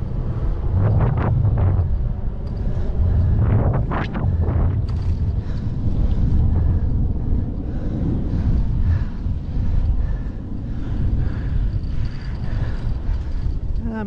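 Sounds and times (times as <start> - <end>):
bicycle tyre and road rumble: 0.0 - 14.0
wind buffeting microphone: 0.0 - 14.0.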